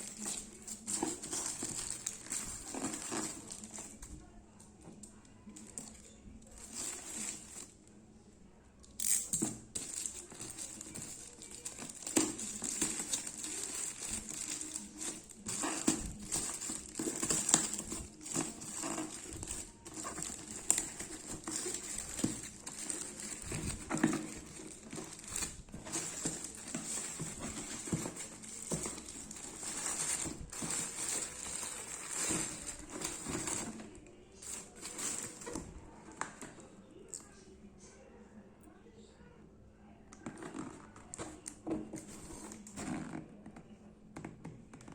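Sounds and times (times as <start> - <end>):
packaging crinkling and rustling: 0.0 - 7.9, 9.0 - 36.8, 40.2 - 43.2.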